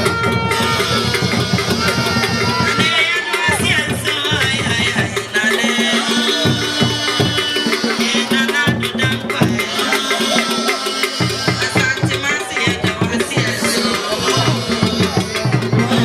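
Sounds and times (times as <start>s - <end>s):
music with drum beat and melody: 0.0s - 16.0s.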